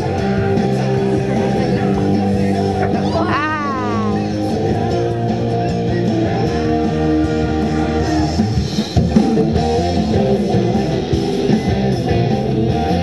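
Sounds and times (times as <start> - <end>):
strummed electric guitar music: 0.0 - 13.0.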